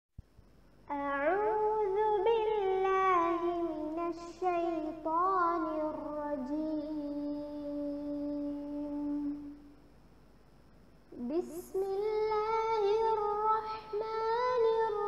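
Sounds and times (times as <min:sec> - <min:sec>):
girl chanting melodically: 0:00.9 - 0:09.6, 0:11.1 - 0:15.0.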